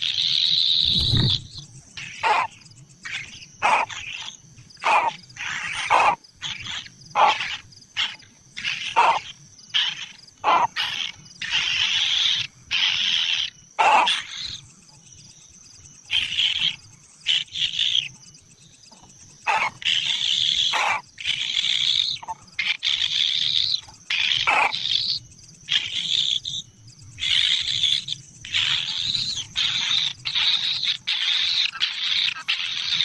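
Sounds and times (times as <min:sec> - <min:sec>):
harsh raspy bird begging calls: 0:00.0 - 0:14.6, 0:16.1 - 0:18.2, 0:19.4 - 0:33.0.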